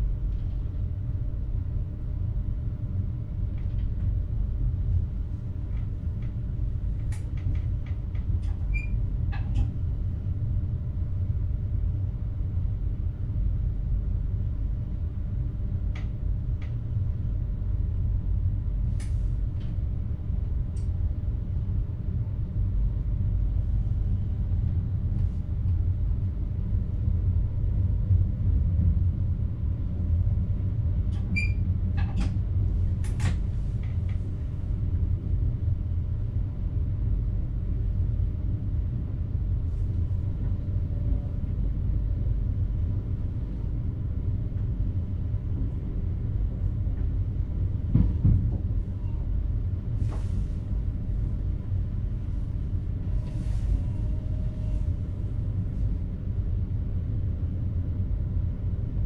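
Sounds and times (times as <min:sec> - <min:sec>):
train rumble from cab: 0:00.0 - 0:59.0.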